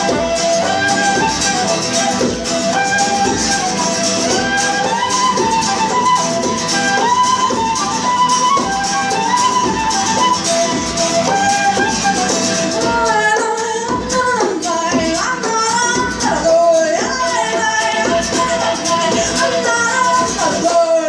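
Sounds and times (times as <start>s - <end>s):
high percussion rhythm: 0.0s - 20.9s
sliding folk melody: 0.0s - 21.0s.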